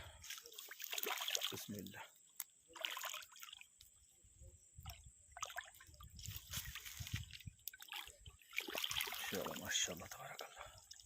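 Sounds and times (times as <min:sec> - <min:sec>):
water sloshing and dripping: 0:00.0 - 0:04.0, 0:04.8 - 0:11.0.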